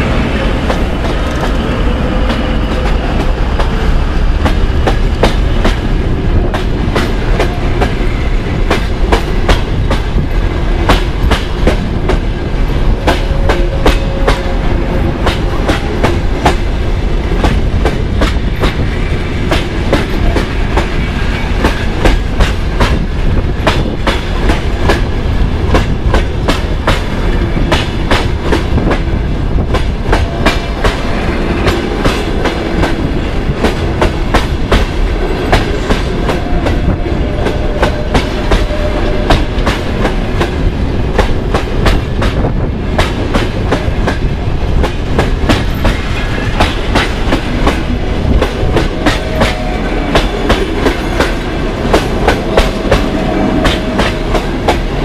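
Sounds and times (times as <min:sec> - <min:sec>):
steady train rumble: 0:00.0 - 0:55.0.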